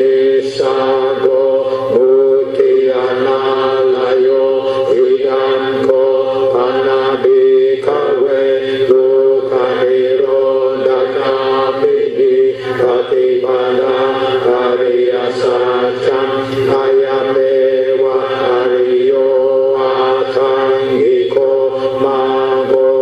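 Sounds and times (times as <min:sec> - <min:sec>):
voices chanting on a monotone: 0:00.0 - 0:23.0.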